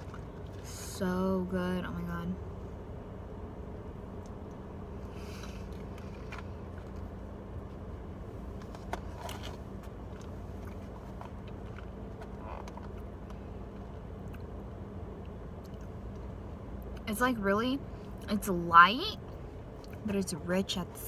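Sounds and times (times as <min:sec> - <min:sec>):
car interior hum: 0:00.0 - 0:21.0.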